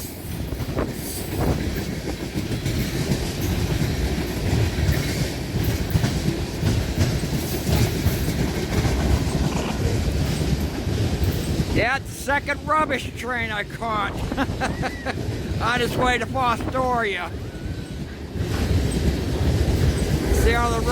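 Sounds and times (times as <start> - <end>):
wheels clicking over rail joints: 0.0 - 13.0, 15.1 - 20.9
freight train rolling past: 0.0 - 20.9.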